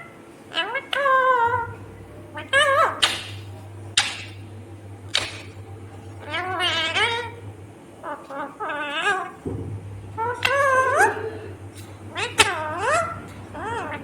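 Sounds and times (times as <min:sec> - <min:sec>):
parakeet screeching and chattering: 0:00.0 - 0:04.4, 0:05.1 - 0:07.4, 0:08.0 - 0:09.4, 0:10.1 - 0:14.0
steady low hum: 0:00.0 - 0:14.0.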